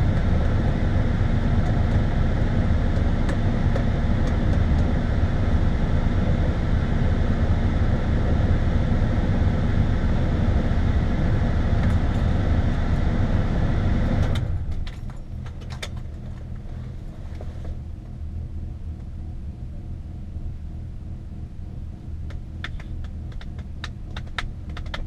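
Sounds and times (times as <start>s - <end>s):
wind rumble through open door: 0.0s - 25.0s.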